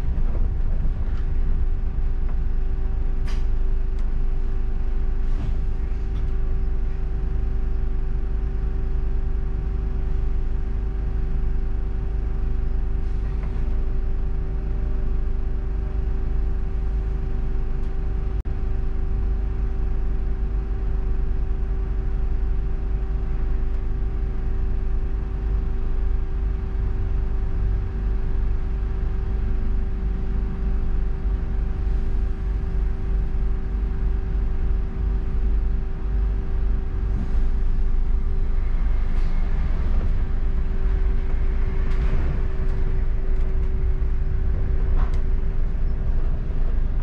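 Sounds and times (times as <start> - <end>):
bus engine and road rumble: 0.0 - 47.0
constant droning hum: 0.0 - 47.0.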